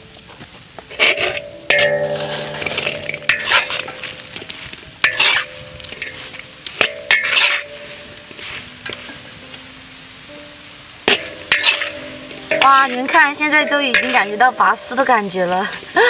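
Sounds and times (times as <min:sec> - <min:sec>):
light sizzle: 0:00.0 - 0:16.0
metal spatula scraping wok: 0:00.9 - 0:09.6, 0:11.0 - 0:16.0.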